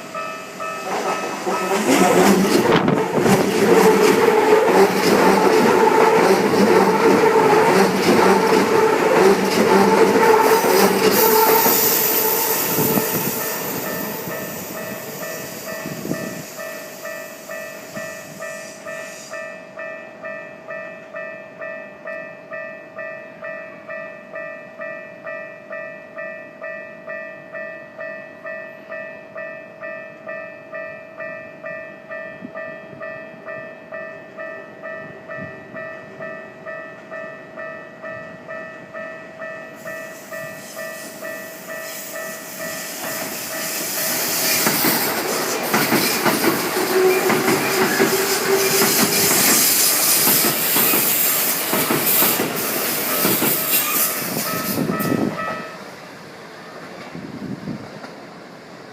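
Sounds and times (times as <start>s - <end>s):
train passing: 0.0s - 24.9s, 29.8s - 58.9s
crossing warning bell ringing: 0.0s - 56.0s.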